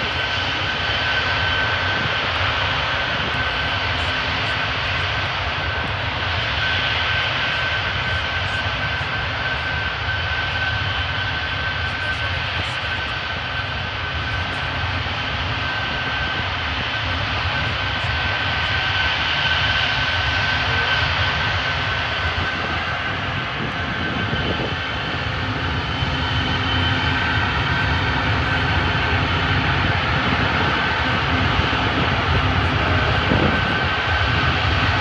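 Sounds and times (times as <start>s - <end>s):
jet engines rumbling and whining: 0.0s - 35.0s.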